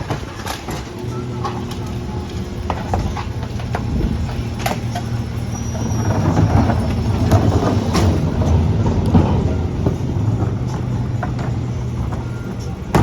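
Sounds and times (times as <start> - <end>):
garbage truck engine running: 0.0 - 13.0
metallic clanks and knocks: 0.0 - 13.0.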